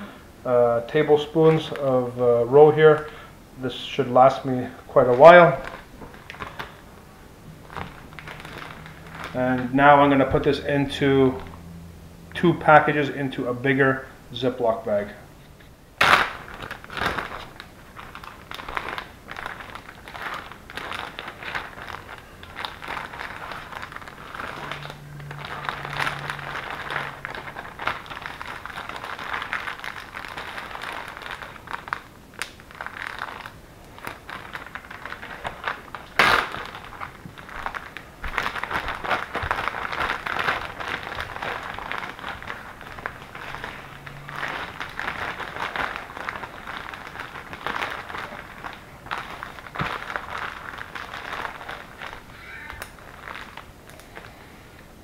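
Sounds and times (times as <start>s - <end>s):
plastic bags crinkling: 0.0s - 55.0s.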